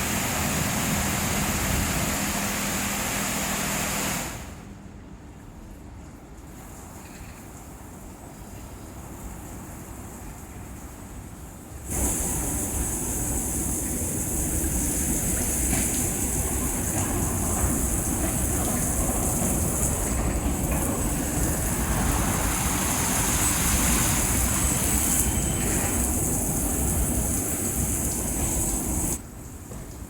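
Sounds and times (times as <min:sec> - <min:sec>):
car wash machine hissing and rumbling: 0:00.0 - 0:30.0.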